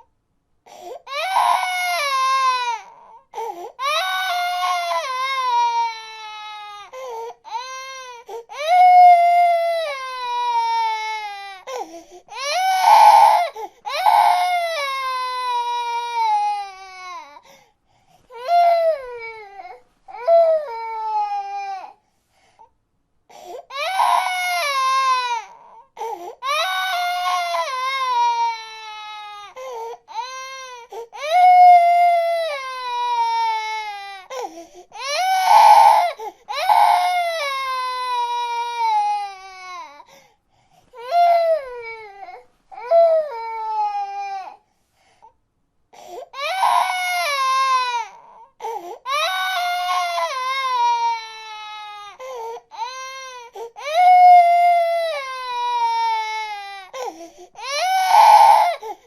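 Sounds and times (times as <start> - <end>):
baby crying: 0.7 - 17.4, 18.3 - 22.0, 23.3 - 40.1, 41.0 - 44.6, 46.0 - 59.0.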